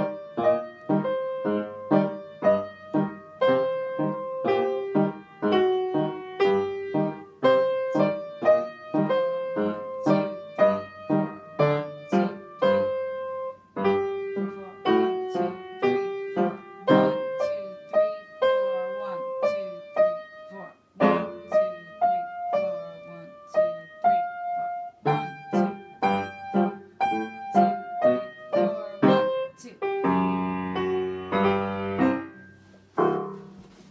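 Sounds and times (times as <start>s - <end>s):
boogie piano duet: 0.0s - 33.9s.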